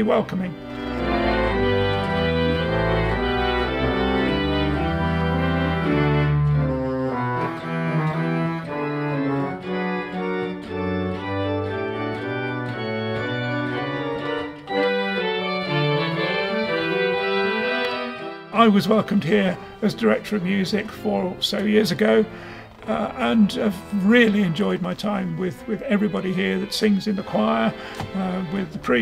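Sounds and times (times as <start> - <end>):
pipe organ playing held chords: 0.0 - 29.0.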